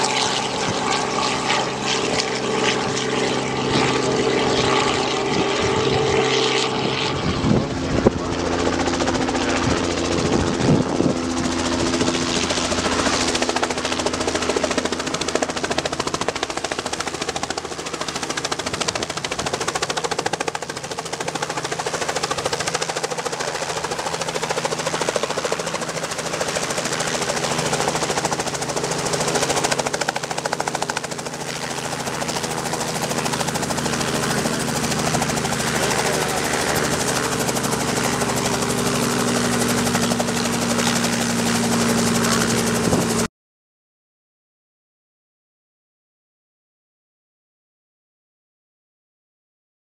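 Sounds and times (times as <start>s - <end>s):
helicopter piston engine: 0.0s - 43.3s
helicopter rotor chopping: 0.0s - 43.3s.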